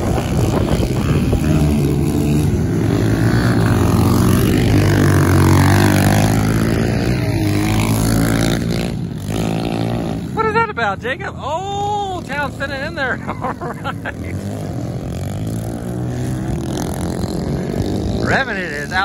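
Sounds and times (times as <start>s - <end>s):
small motorbike engines revving: 0.0s - 19.0s.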